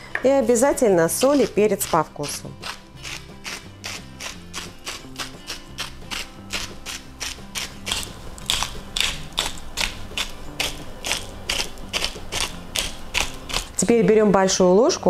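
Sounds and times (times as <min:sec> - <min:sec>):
pepper mill grinding: 0:00.4 - 0:14.0.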